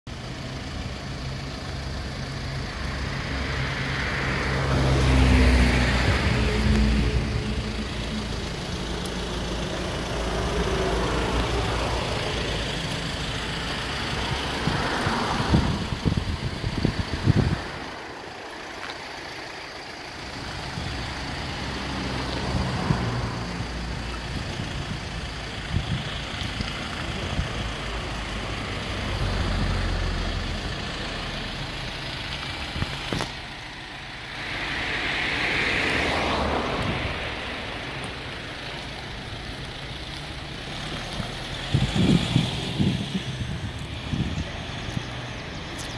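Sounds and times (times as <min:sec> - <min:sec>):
passing traffic rushing: 0:00.1 - 0:45.9
vehicle engine idling: 0:00.1 - 0:45.9.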